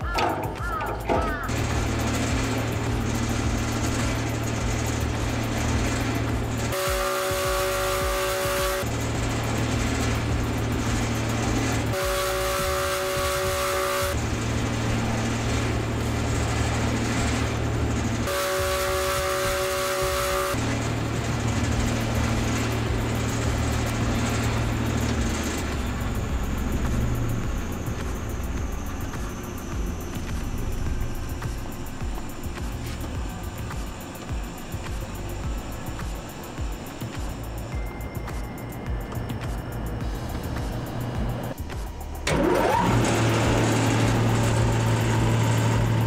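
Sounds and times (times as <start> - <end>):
mill motor humming: 0.0 - 46.0.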